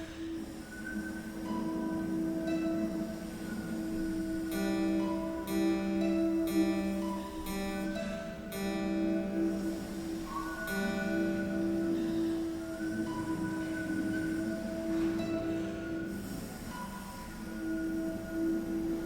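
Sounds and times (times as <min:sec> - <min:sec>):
short held chords: 0:00.0 - 0:19.0.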